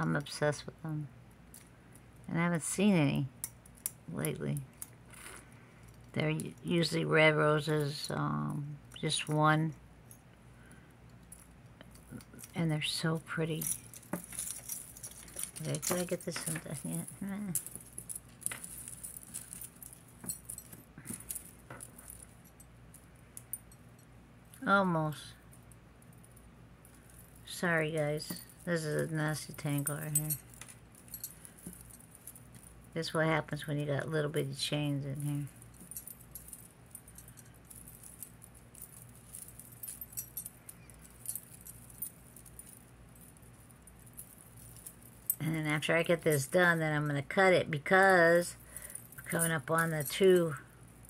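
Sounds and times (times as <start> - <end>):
metal chains and beads clinking: 0.0 - 51.0.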